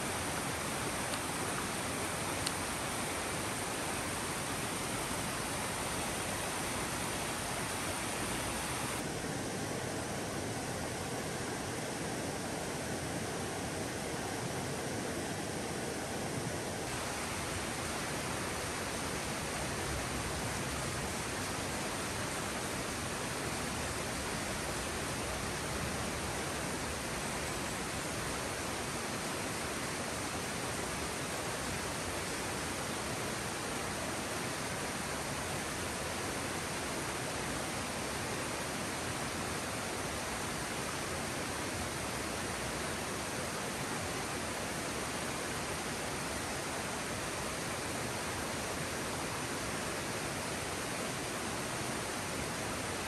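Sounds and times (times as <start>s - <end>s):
stream flowing: 0.0s - 53.0s.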